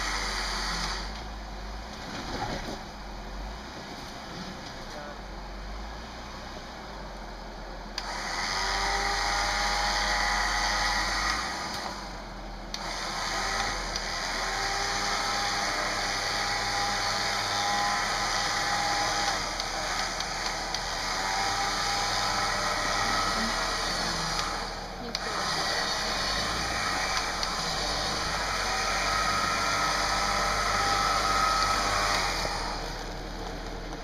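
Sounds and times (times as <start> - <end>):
electric winch motor whining: 0.0 - 1.3, 8.0 - 34.0.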